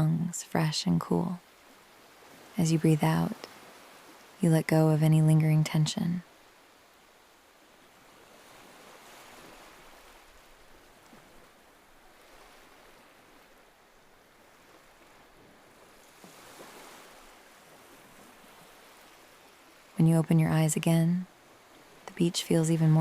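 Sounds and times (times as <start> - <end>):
faint ocean surf washing ashore: 0.0 - 23.0.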